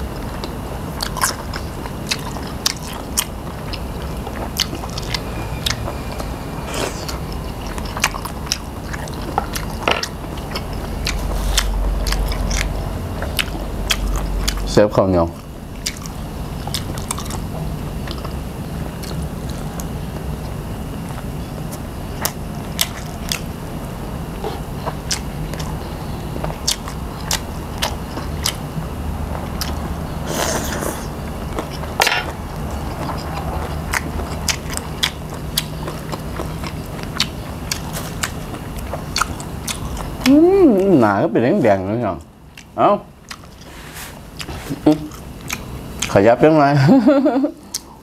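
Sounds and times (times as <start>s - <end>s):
steady low hum: 0.0s - 48.0s
chewing and biting: 0.2s - 5.9s, 6.9s - 14.7s, 15.3s - 23.5s, 24.4s - 40.9s, 42.5s - 46.2s, 47.6s - 48.0s.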